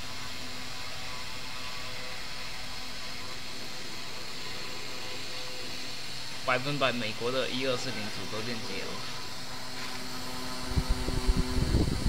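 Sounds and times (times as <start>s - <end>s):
engraving machine spindle whirring: 0.0s - 12.0s.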